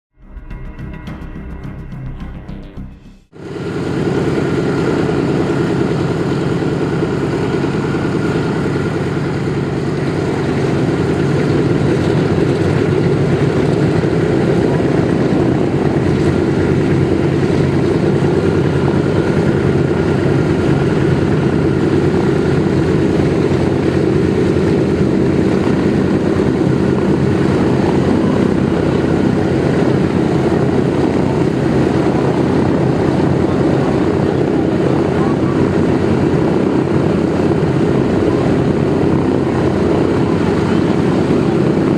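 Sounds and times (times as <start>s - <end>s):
radial aircraft engines running: 0.2s - 41.9s.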